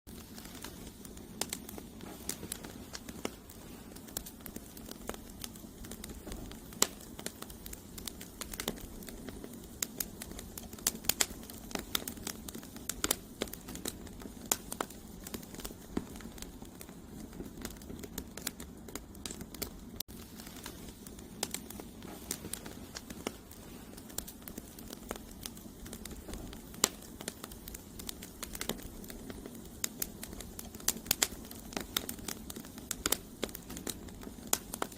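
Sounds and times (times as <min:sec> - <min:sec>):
campfire crackling and popping: 0:00.1 - 0:34.9
low rush of flame: 0:00.1 - 0:34.9.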